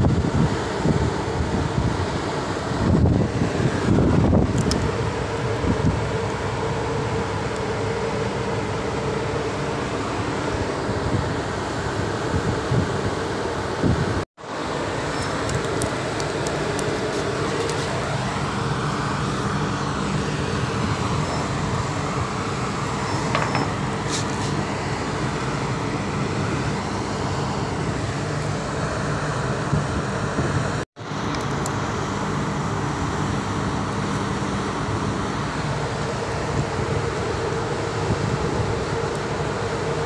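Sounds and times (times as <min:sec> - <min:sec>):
wind noise: 0:00.0 - 0:14.2, 0:15.2 - 0:30.8, 0:35.8 - 0:40.0
ship machinery droning: 0:00.0 - 0:40.0.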